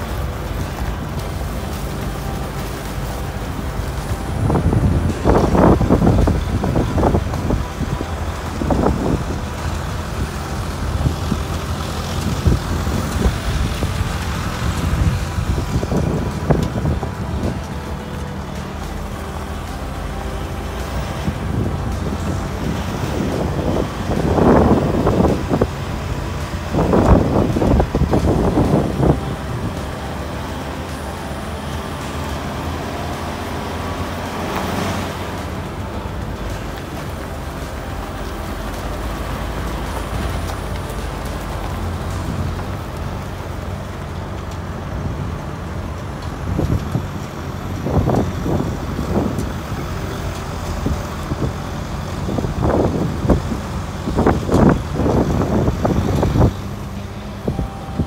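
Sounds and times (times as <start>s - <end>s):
vehicle driving on gravel: 0.0s - 58.0s.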